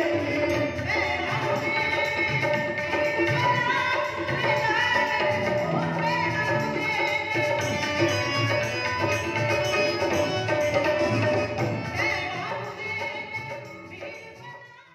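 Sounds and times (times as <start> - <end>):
woman singing into microphone: 0.0 - 14.9.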